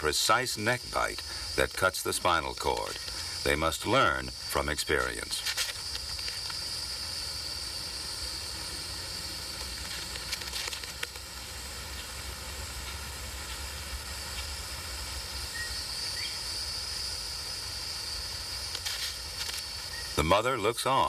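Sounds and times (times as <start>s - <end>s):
film soundtrack hiss: 0.0s - 21.0s.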